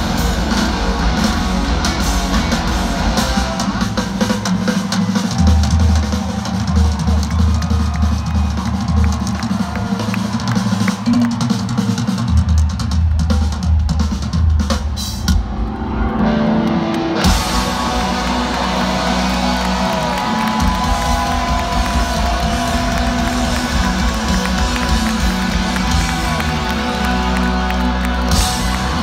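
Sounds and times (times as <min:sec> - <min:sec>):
full rock band playing: 0:00.0 - 0:29.0
rock band drum kit: 0:00.0 - 0:29.0.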